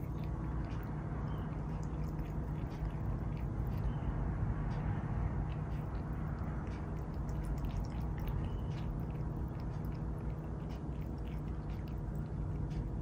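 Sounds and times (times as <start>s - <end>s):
cat lapping water: 0.0s - 4.1s, 5.4s - 13.0s
steady low hum: 0.0s - 13.0s.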